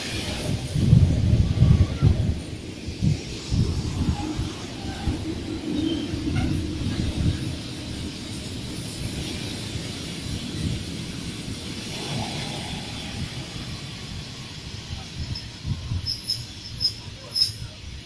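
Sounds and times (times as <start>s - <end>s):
train hiss: 0.0s - 18.0s
train wheels rumbling on rails: 0.0s - 18.0s.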